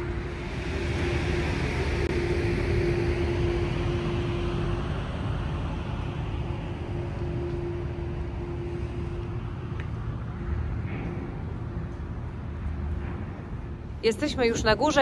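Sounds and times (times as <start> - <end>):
constant drone: 0.0 - 15.0
ferry engines humming: 0.0 - 15.0.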